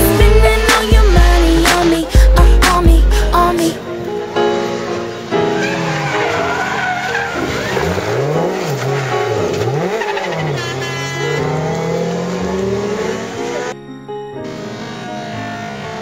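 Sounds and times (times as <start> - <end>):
rally car engine revving: 0.0 - 3.2, 4.6 - 13.8, 14.4 - 16.0.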